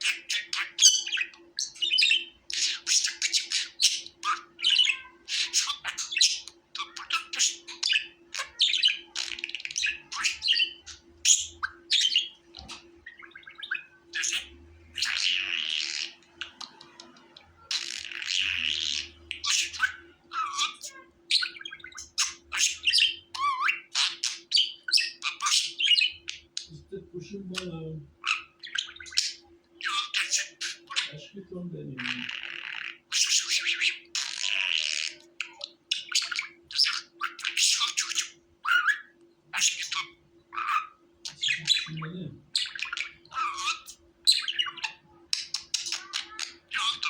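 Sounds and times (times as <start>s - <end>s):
budgerigar chirping: 0.0s - 47.0s.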